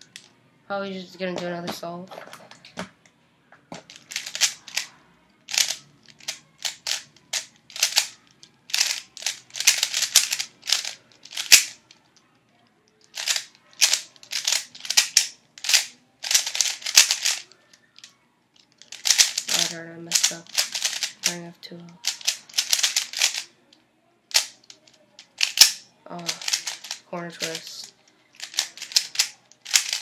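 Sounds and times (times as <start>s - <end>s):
puzzle cube plastic clacks: 3.7s - 4.9s, 5.5s - 12.0s, 12.9s - 23.5s, 24.3s - 30.0s.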